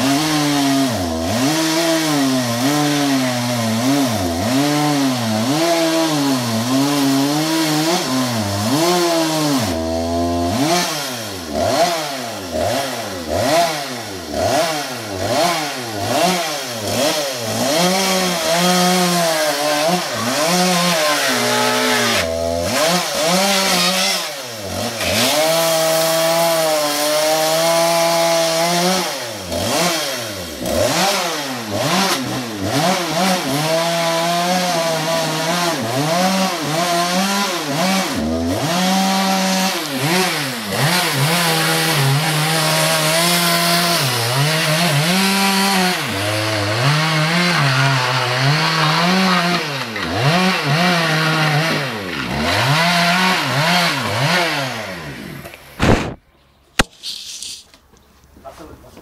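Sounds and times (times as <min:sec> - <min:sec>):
chainsaw cutting wood: 0:00.0 - 0:56.2.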